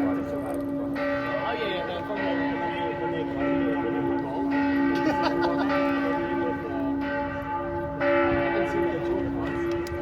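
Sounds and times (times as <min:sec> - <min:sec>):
church bells ringing in peal: 0:00.0 - 0:10.0.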